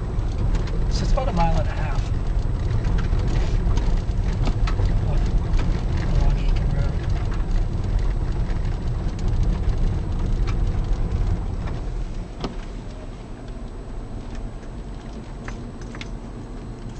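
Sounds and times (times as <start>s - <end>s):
car road and engine rumble: 0.0s - 16.9s.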